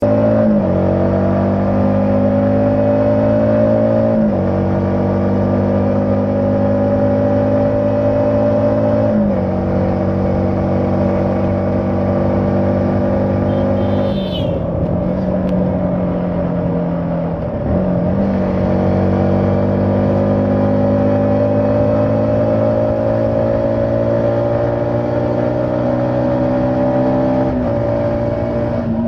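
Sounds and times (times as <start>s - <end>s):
motorcycle engine shifting gears: 0.0s - 29.0s.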